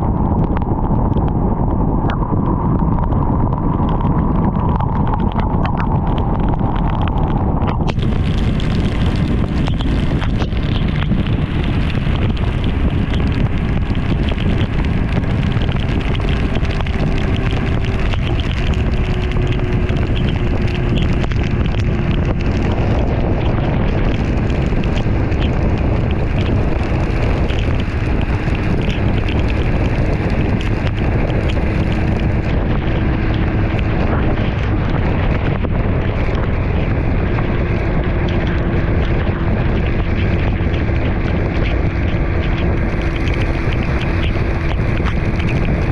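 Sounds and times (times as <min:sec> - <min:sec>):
heavy wind rush over microphone: 0:00.0 - 0:45.9.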